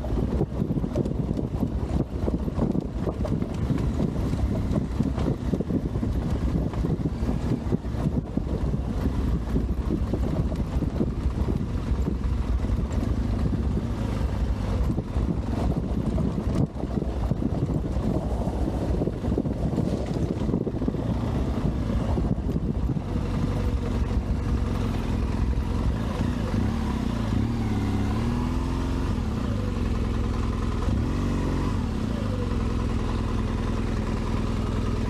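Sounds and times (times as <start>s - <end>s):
motorcycle engine running: 0.0s - 35.0s
wind buffeting microphone: 0.0s - 35.0s.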